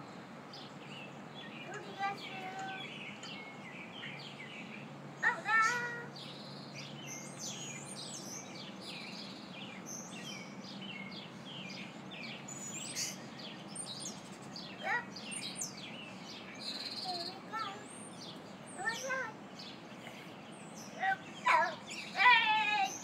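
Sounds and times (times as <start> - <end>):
low background hum: 0.0 - 23.0
songbirds chirping: 0.0 - 23.0.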